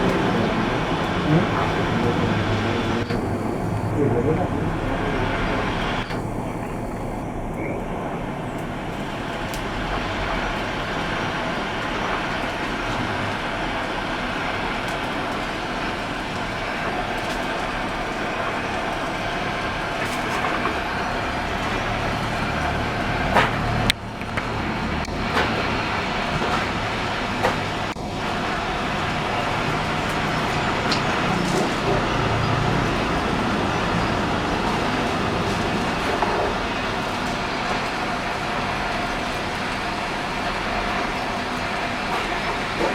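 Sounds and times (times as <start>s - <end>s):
arc welding hiss: 0.0s - 42.9s.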